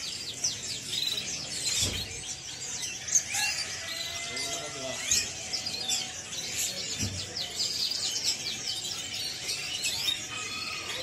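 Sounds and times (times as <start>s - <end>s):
canaries chirping and trilling: 0.0s - 11.0s.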